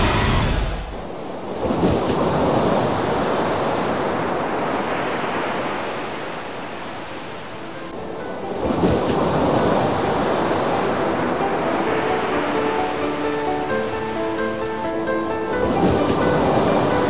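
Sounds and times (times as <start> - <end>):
waves churning and breaking: 0.0 - 17.0.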